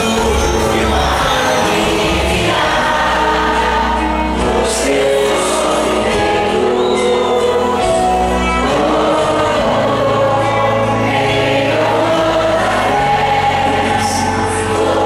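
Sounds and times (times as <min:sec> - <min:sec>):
jingle with singing: 0:00.0 - 0:15.0.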